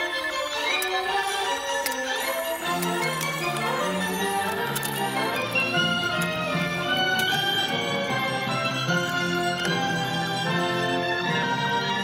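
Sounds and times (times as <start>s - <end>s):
melody of held notes: 0.0s - 12.0s.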